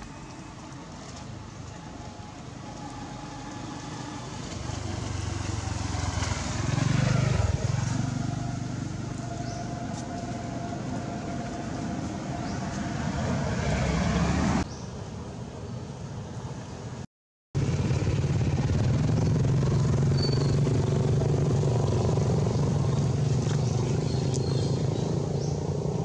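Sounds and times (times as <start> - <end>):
vehicle engine passing by: 1.1 - 14.7, 17.6 - 26.0.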